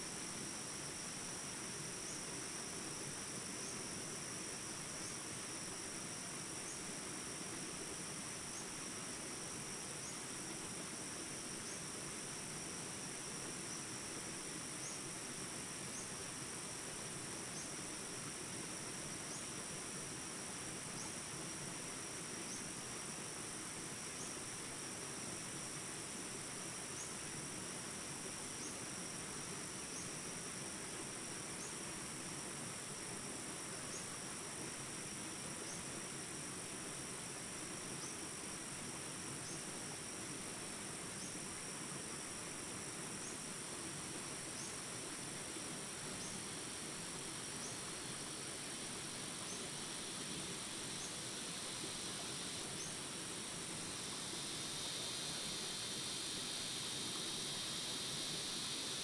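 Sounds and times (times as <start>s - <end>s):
insects buzzing: 0.0s - 59.0s
small forest rapids rushing: 0.0s - 59.0s.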